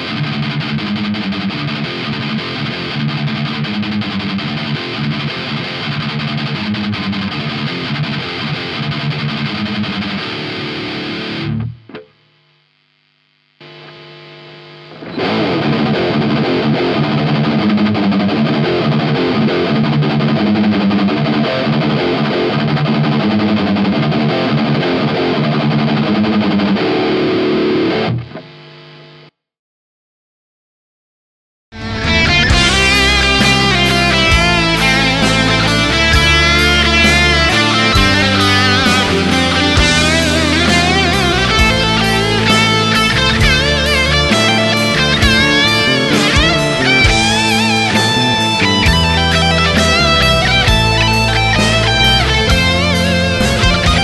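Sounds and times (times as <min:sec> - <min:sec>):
guitar chord ringing: 0:00.0 - 0:11.9, 0:13.6 - 0:28.5, 0:31.8 - 0:54.0
distorted electric guitar riff: 0:00.0 - 0:29.4, 0:31.7 - 0:54.0.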